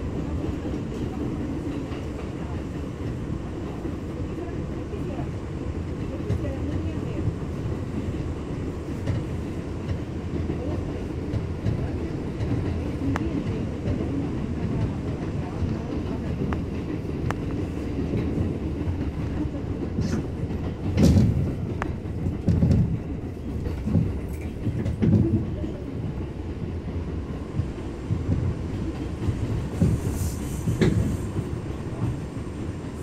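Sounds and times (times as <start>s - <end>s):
subway car low rumble: 0.0s - 33.0s.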